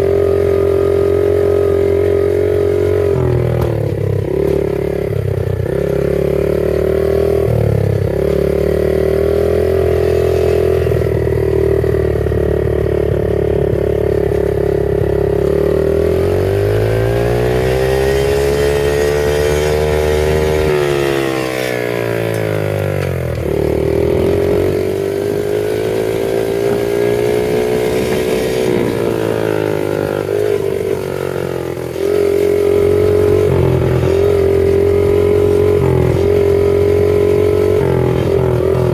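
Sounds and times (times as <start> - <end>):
small motorbike engine running: 0.0 - 38.9.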